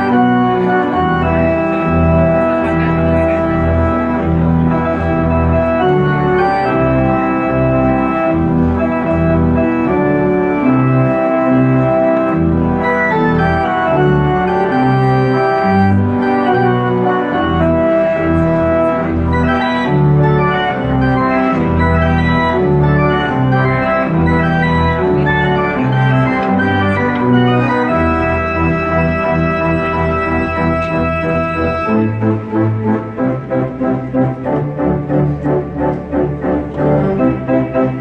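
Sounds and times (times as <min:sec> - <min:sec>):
pipe organ playing chords: 0:00.0 - 0:38.0.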